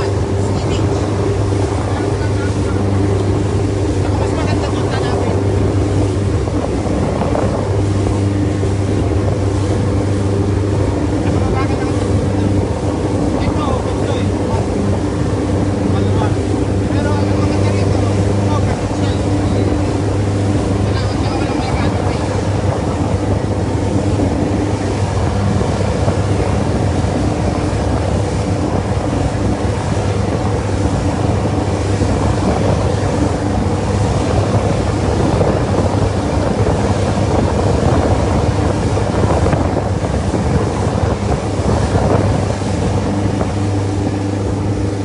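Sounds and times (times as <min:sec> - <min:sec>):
boat engine humming: 0:00.0 - 0:45.0
water rushing: 0:00.0 - 0:45.0
wind on microphone: 0:00.0 - 0:45.0.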